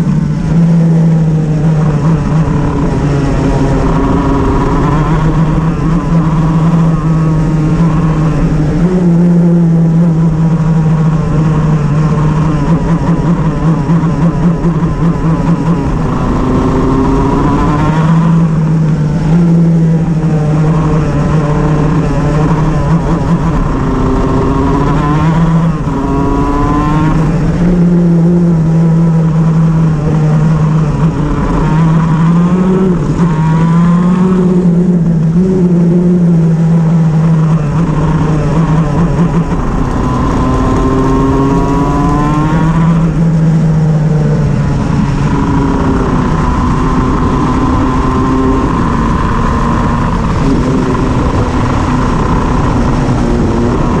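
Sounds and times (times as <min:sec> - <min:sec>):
two-stroke kart engine revving: 0:00.0 - 0:54.0.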